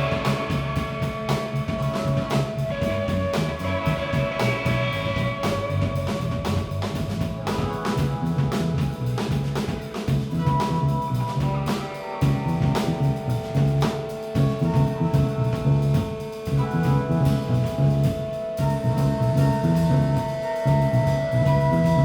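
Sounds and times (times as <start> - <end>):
bass line: 0.0 - 22.0
drum kit: 0.0 - 22.0.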